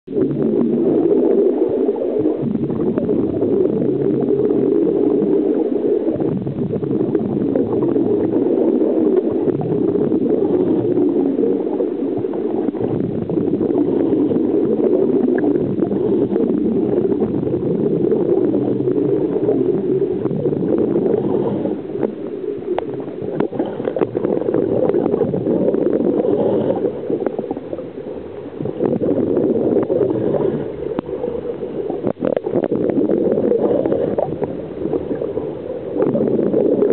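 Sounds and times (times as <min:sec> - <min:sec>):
underwater bubbles gurgling: 0:00.1 - 0:36.9.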